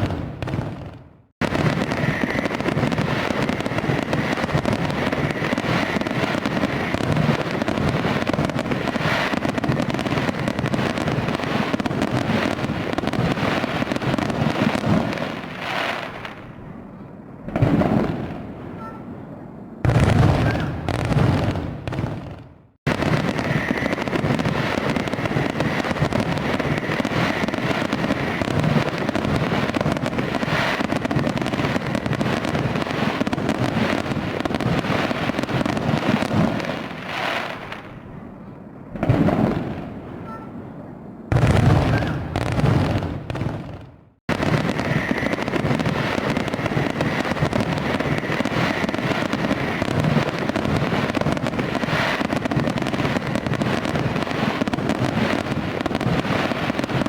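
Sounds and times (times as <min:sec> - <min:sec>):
fireworks crackling and bangs: 0:00.0 - 0:16.8, 0:17.4 - 0:19.1, 0:19.8 - 0:38.2, 0:38.9 - 0:40.6, 0:41.3 - 0:57.0.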